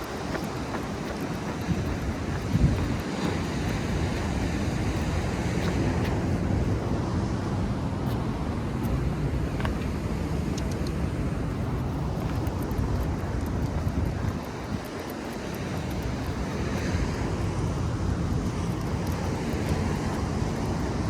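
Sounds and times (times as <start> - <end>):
faint ticks: 0.0 - 6.2, 8.8 - 21.0
wind rumble on microphone: 0.0 - 21.0.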